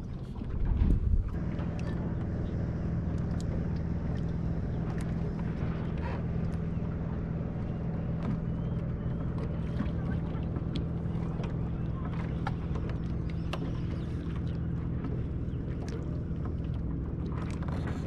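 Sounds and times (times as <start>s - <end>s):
light water noise: 0.0s - 18.0s
electric trolling motor humming: 1.3s - 18.0s.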